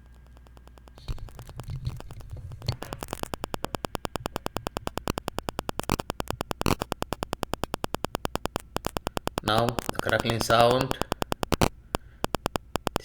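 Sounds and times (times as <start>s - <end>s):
rapid crackling interference clicks: 0.0s - 13.0s.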